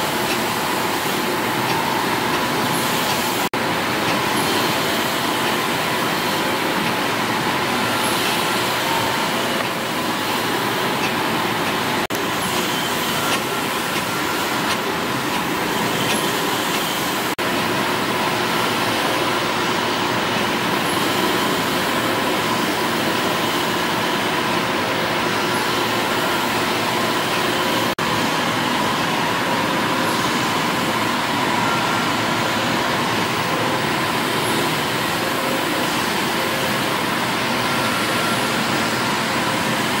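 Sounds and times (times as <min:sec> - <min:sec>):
steam engines whirring and hissing: 0:00.0 - 0:40.0.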